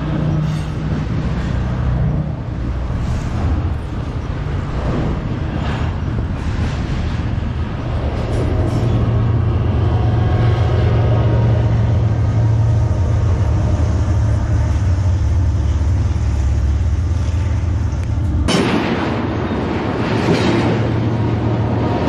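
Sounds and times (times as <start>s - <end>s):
diesel locomotive engine rumble: 0.0s - 22.0s
rolling train cars rushing: 0.0s - 22.0s.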